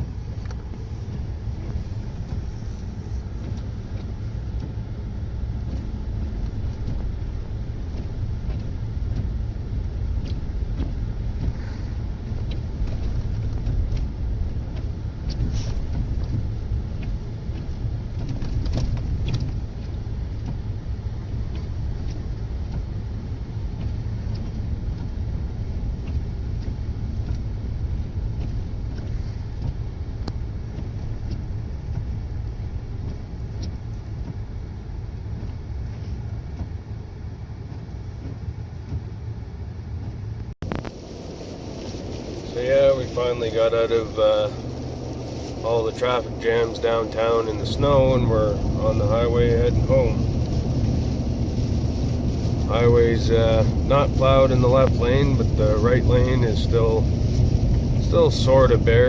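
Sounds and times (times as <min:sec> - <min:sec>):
truck engine and tyres rumbling: 0:00.0 - 0:59.0.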